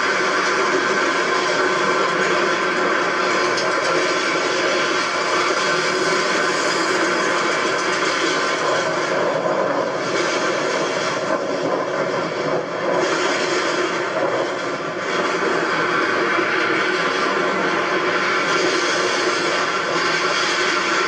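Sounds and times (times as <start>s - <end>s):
roller coaster rushing along track: 0.0s - 21.0s.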